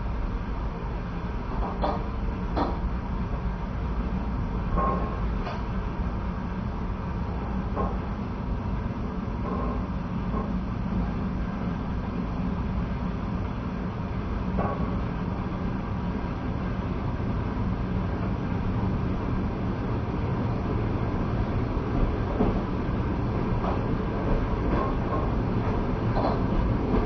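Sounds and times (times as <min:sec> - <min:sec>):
train wheels rumbling on rails: 0:00.4 - 0:27.0.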